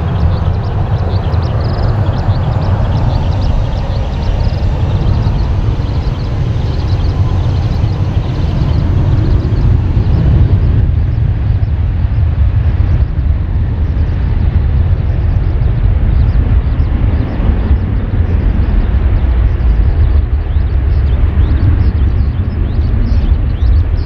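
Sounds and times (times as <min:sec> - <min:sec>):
jet engines roaring at takeoff: 0:00.0 - 0:24.0.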